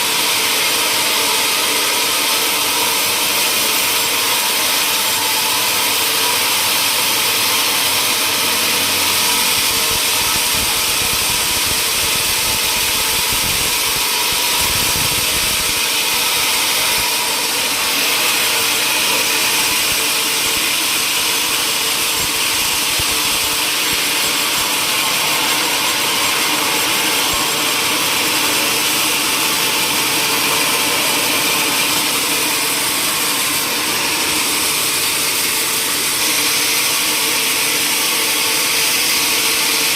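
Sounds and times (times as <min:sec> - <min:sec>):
woodworking machinery running: 0:00.0 - 0:39.9.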